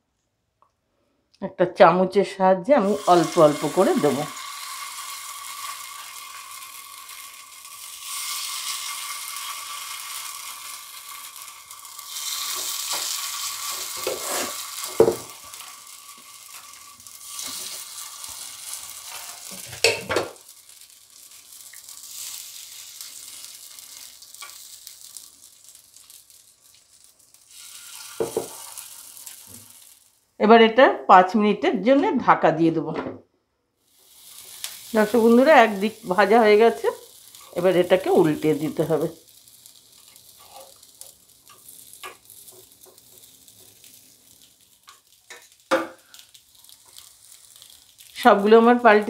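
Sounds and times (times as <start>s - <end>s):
batter sizzling in pan: 2.7s - 30.4s, 33.8s - 49.0s.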